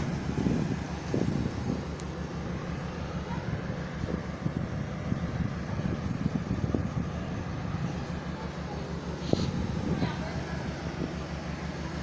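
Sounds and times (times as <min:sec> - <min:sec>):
train rumbling: 0:00.0 - 0:12.0
wind buffeting microphone: 0:00.0 - 0:12.0.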